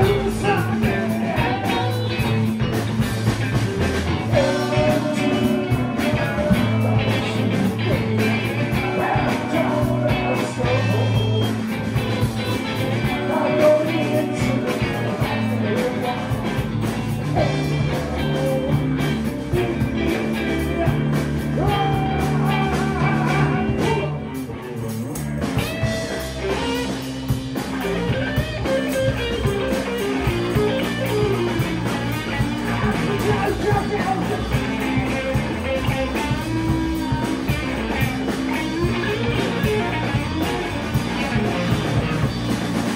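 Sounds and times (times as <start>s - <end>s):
sung vocals: 0.0s - 3.0s, 4.0s - 42.9s
distorted electric guitars: 0.0s - 42.9s
drum kit: 0.0s - 42.9s.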